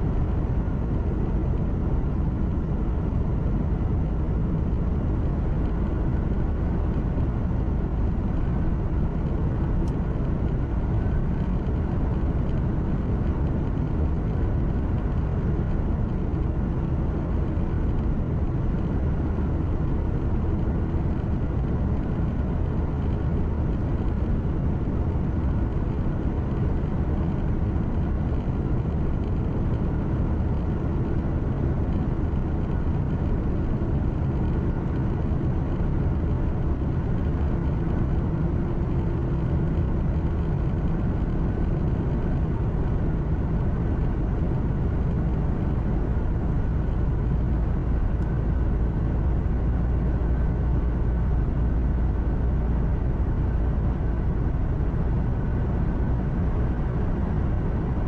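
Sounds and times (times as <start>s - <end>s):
diesel engine drone: 0.0s - 58.0s.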